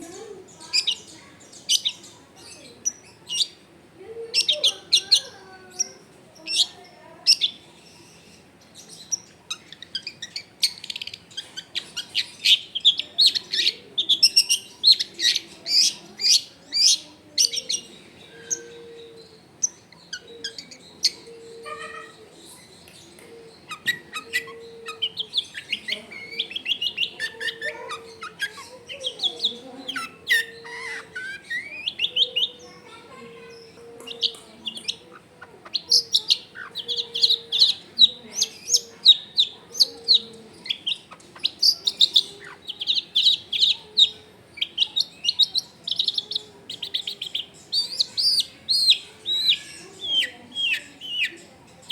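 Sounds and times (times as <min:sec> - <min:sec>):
bird chattering song: 0:00.0 - 0:51.9.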